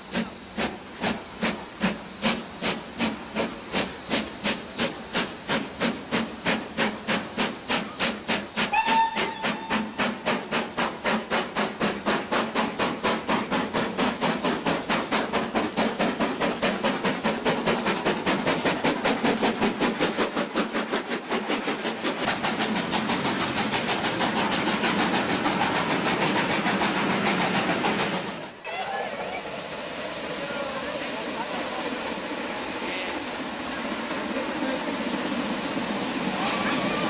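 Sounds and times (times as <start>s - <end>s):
steam locomotive chimney exhaust beats: 0.0s - 28.6s, 29.4s - 37.0s
train passing rush: 0.0s - 37.0s.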